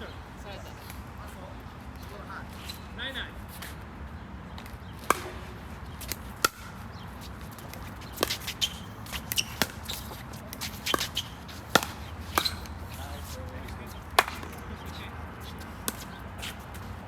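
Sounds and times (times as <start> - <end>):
feet shuffling on court: 0.5 - 17.0.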